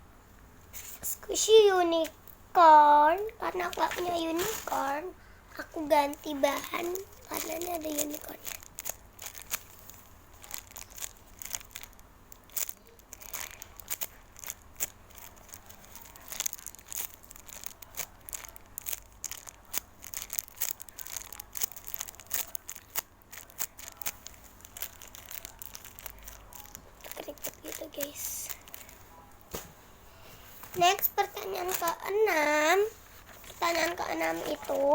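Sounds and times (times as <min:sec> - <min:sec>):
plastic packaging crinkling: 0:01.9 - 0:34.9
sharp crackles: 0:03.2 - 0:29.7, 0:30.4 - 0:34.9.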